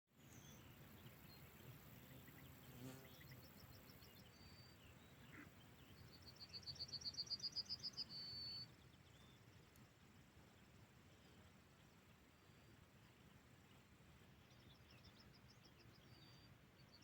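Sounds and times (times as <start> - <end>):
songbird singing: 0.1 - 17.0.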